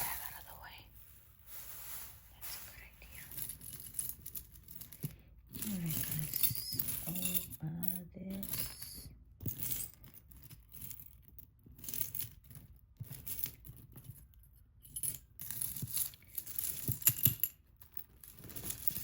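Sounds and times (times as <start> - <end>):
jewelry clinking and rattling: 0.0 - 19.0.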